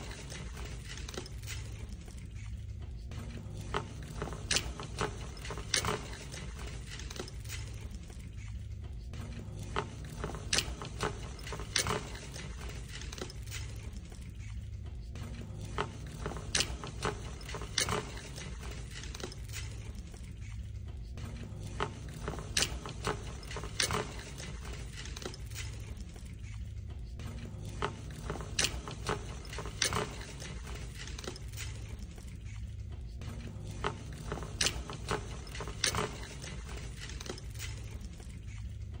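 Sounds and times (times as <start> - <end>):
shopping cart wheels rumbling: 0.0 - 39.0.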